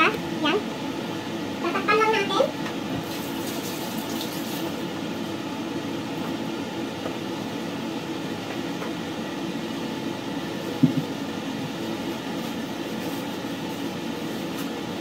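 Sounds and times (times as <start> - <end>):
mechanical room hum: 0.0 - 15.0.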